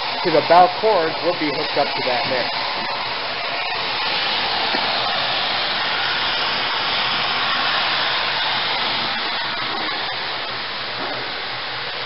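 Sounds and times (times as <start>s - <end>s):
steam hissing from locomotive: 0.0s - 12.0s.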